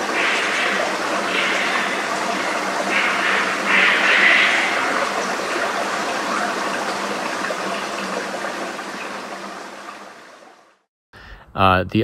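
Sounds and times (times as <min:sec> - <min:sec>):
trickling stream: 0:00.0 - 0:10.9.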